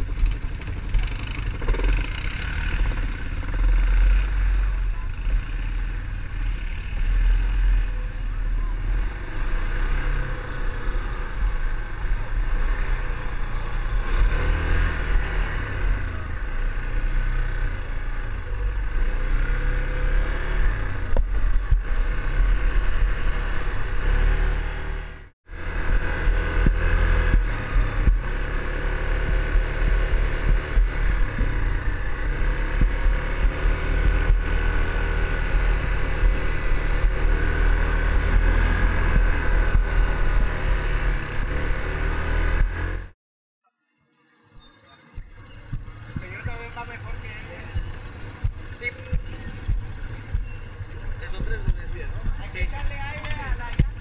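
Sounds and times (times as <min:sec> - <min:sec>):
quad bike engine running: 0:00.0 - 0:43.1, 0:45.2 - 0:54.0.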